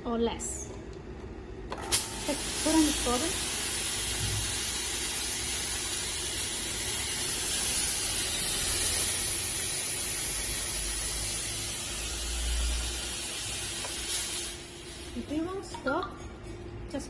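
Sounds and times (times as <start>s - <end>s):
fog machine hissing: 1.8s - 15.7s.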